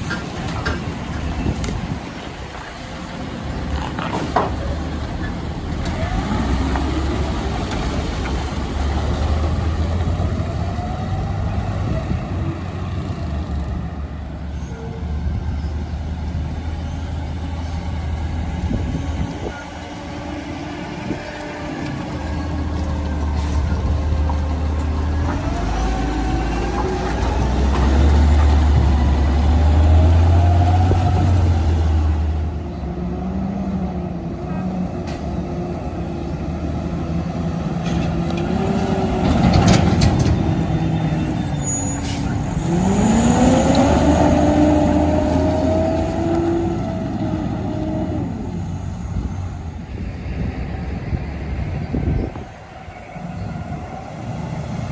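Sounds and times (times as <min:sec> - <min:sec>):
garbage truck diesel engine: 0:00.0 - 0:54.9.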